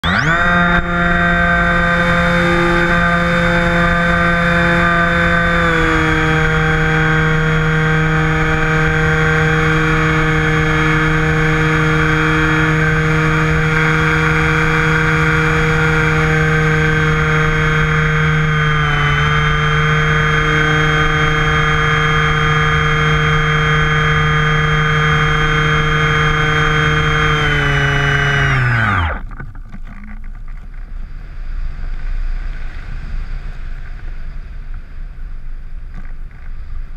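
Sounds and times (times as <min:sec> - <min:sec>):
model airplane motor droning: 0:00.0 - 0:36.9.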